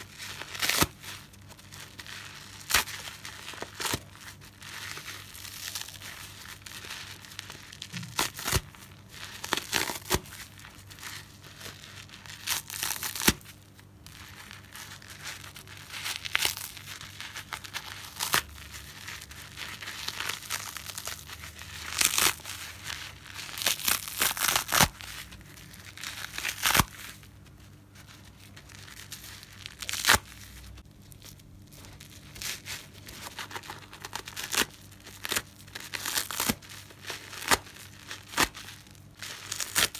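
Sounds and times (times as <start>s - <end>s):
sponge crackling and tearing: 0.0s - 39.9s.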